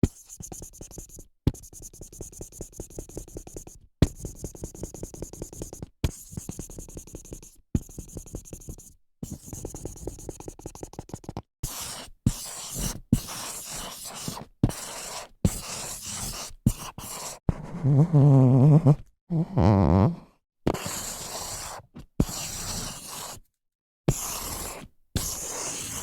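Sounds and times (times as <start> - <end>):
marker writing on whiteboard: 0.0 - 17.8, 20.7 - 23.4, 24.1 - 26.0.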